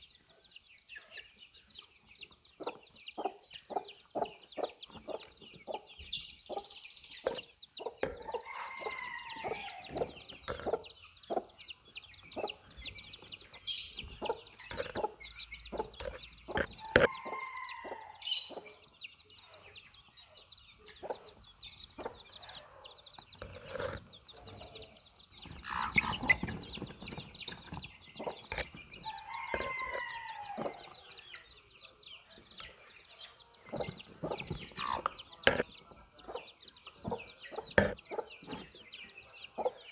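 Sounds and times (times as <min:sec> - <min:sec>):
baby chicks peeping: 0:00.0 - 0:39.9
chickens clucking: 0:00.0 - 0:39.9.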